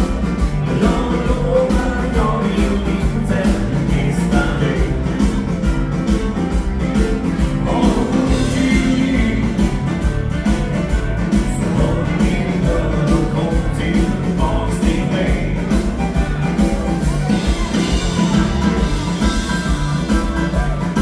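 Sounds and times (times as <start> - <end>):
live rock and roll band: 0.0 - 21.0.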